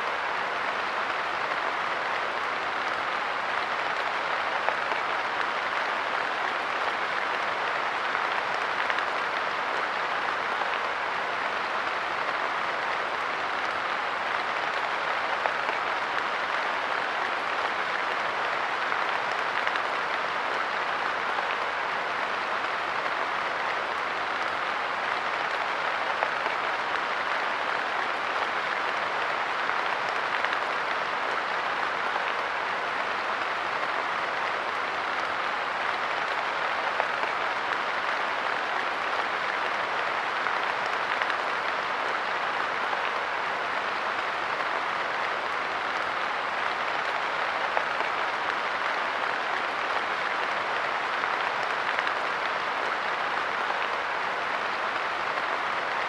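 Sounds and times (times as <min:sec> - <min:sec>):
rain pattering on wooden bench: 0:00.1 - 0:56.0.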